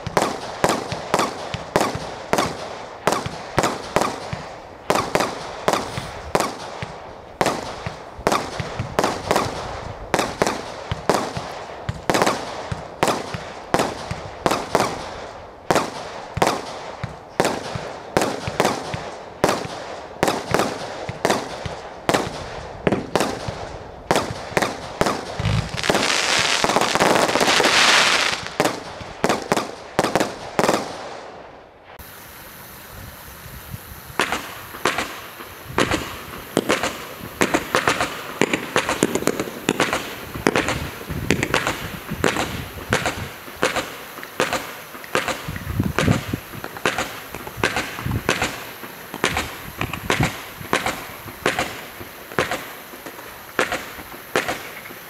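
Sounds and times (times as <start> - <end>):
firework bangs echoing: 0.0 - 32.1, 33.8 - 55.0
firework crackling hiss: 0.0 - 55.0.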